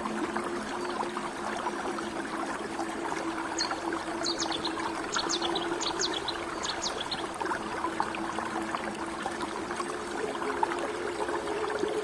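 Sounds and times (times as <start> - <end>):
stream babbling over rocks: 0.0 - 12.0.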